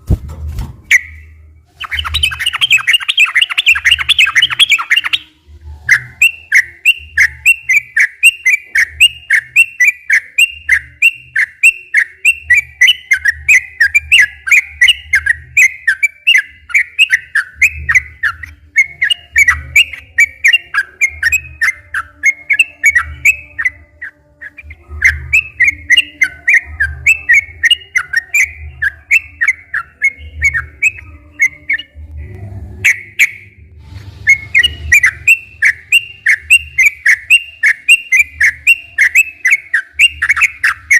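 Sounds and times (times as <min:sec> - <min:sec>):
bird singing whistled chirps: 0:00.9 - 0:32.0, 0:34.2 - 0:40.9.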